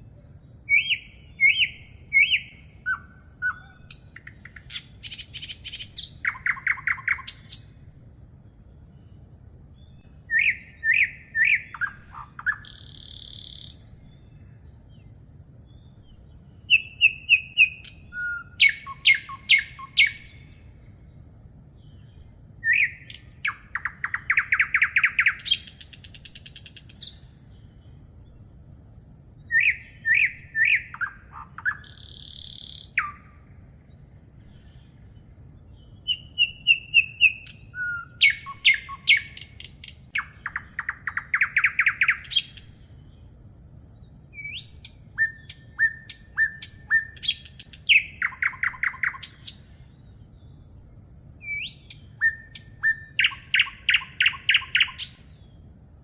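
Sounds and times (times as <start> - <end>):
faint low background noise: 0.0 - 56.0
songbirds singing: 0.0 - 56.0.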